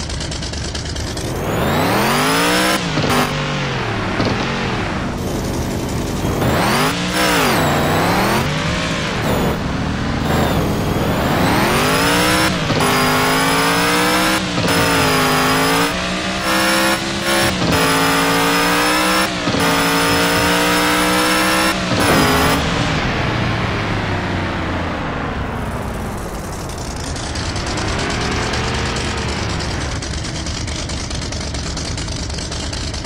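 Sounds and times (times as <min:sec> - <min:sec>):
vehicle engine revving hard: 0:01.1 - 0:23.7, 0:25.8 - 0:30.2.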